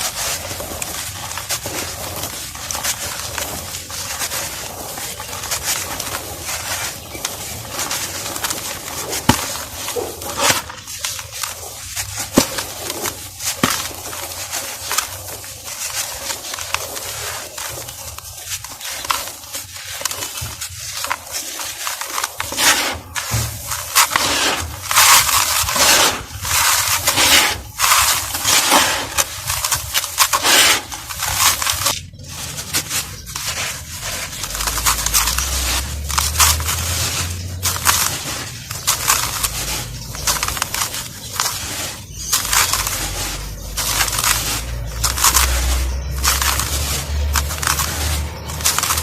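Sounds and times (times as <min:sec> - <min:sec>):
pottery crumbling and crunching: 0:00.0 - 0:49.0.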